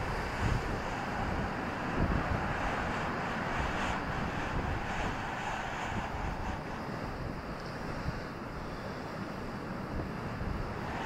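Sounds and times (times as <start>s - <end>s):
sea surf breaking on shore: 0.0s - 11.0s
wind buffeting microphone: 0.0s - 11.0s.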